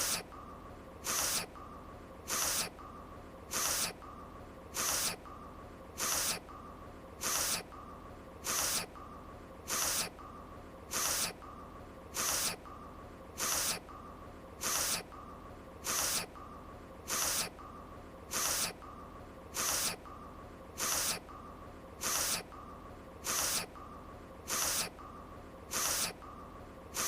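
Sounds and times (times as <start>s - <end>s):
faint steady tone: 0.0s - 27.0s.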